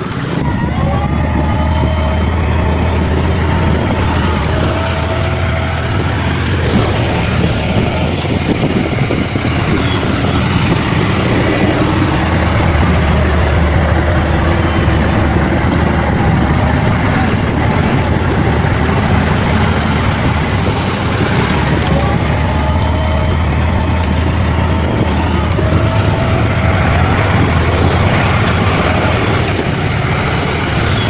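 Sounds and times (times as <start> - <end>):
bulldozer diesel engine droning: 0.0 - 31.0.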